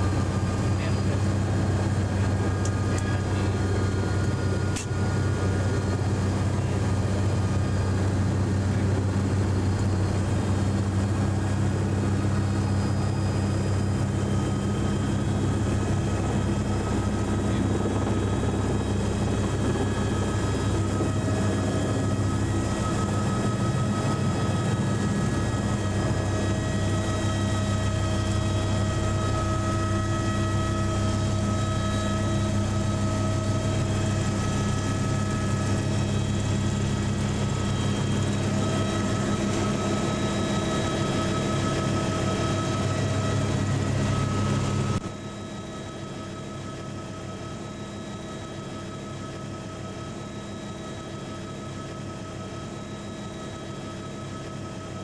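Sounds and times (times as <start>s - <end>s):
helicopter turbine and rotor drone: 0.0s - 55.0s
high turbine whine: 0.0s - 55.0s.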